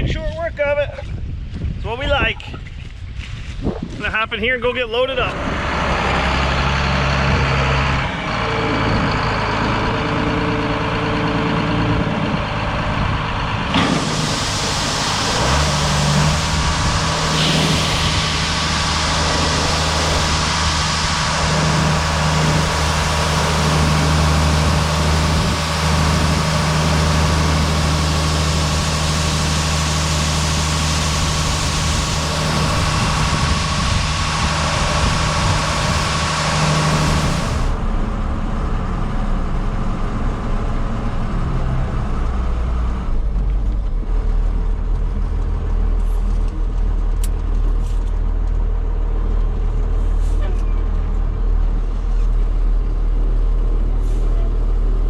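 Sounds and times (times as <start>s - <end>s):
tractor engine idling and revving: 3.6s - 55.0s.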